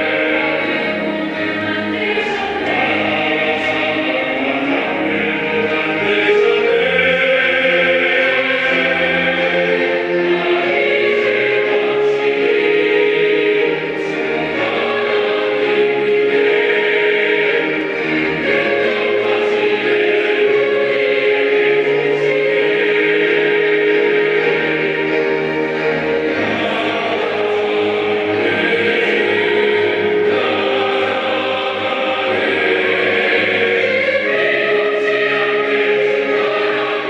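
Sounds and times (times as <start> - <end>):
mixed choir singing in harmony: 0.0 - 37.0.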